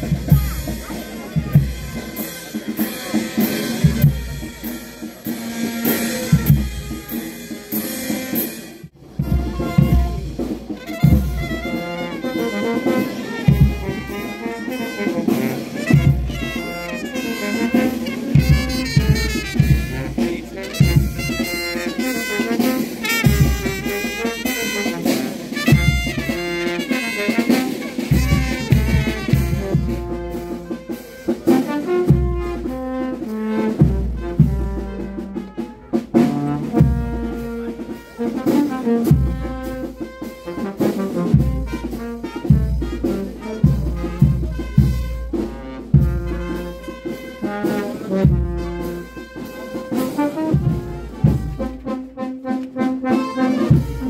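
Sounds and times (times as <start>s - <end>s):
brass band playing march: 0.0s - 54.0s
low drum beats: 0.0s - 54.0s.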